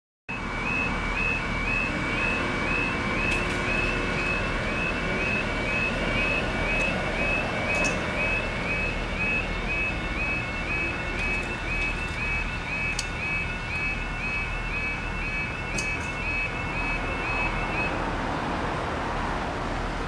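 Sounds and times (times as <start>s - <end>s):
level crossing alarm warbling: 0.3s - 18.0s.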